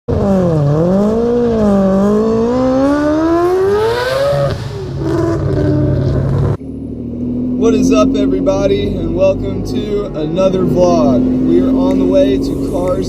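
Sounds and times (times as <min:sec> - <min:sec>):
rotary engine accelerating: 0:00.1 - 0:13.0.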